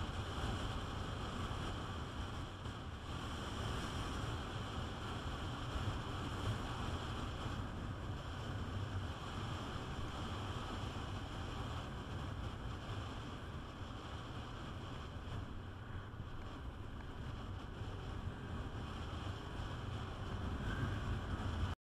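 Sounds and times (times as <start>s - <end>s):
tyres on road: 0.0s - 21.8s
wind buffeting microphone: 0.0s - 21.8s.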